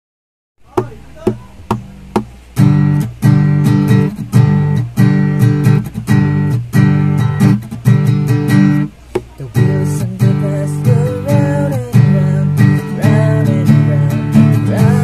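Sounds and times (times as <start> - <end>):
acoustic guitar strumming: 0.6 - 15.0.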